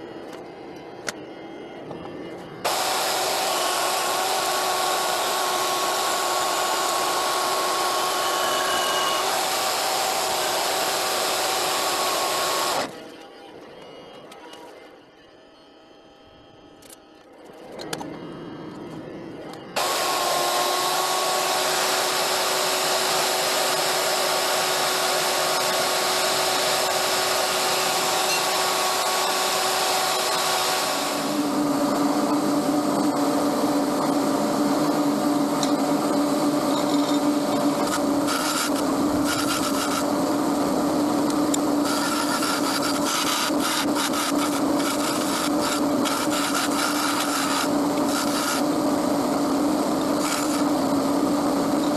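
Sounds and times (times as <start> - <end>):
band saw cutting steel: 2.6 - 13.0, 19.8 - 51.9
bench belt sander running: 2.6 - 13.0, 19.8 - 51.9.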